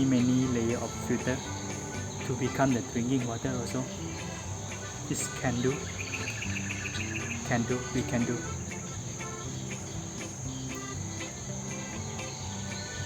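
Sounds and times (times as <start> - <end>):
high insect chorus: 0.0 - 13.0
soft background music: 0.0 - 13.0.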